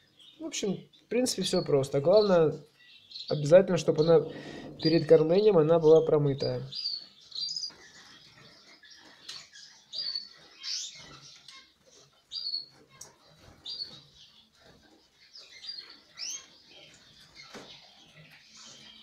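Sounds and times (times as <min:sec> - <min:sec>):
canaries chirping: 0:00.0 - 0:19.0.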